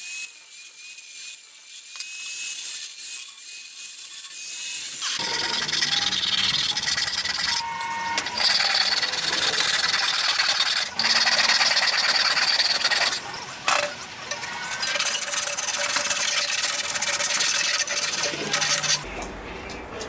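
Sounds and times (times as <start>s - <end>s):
power tool grinding: 1.2s - 19.0s.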